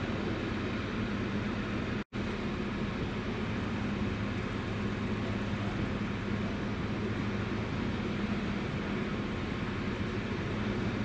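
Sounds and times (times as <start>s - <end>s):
ship diesel engine drone: 0.0s - 11.0s.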